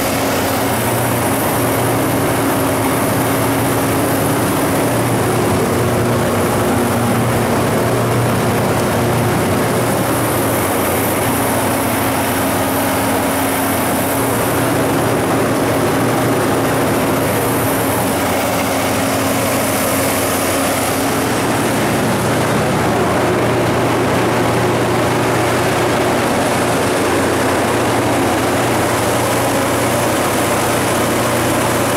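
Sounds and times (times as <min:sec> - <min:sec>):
cooling blower air rush: 0:00.0 - 0:31.9
diesel generator running: 0:00.0 - 0:31.9.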